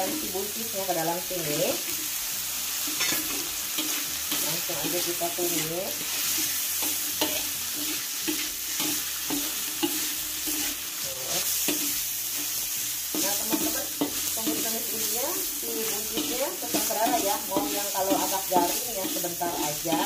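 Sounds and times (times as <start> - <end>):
food sizzling in a wok: 0.0 - 20.0
spatula scraping a pan: 2.7 - 20.0.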